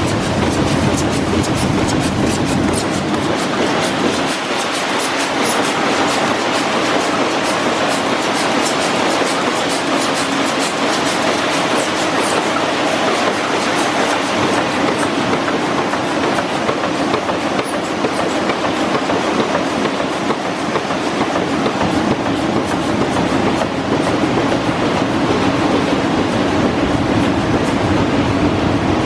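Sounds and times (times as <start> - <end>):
printing press clattering: 0.0 - 26.0.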